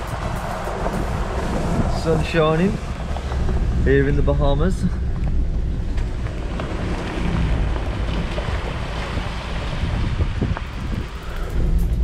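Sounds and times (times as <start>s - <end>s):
low engine rumble: 0.0s - 12.0s
wind buffeting microphone: 0.0s - 12.0s.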